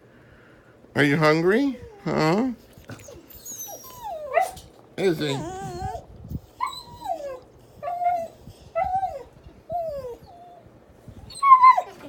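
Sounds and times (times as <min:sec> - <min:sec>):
dog whining: 0:01.8 - 0:12.0.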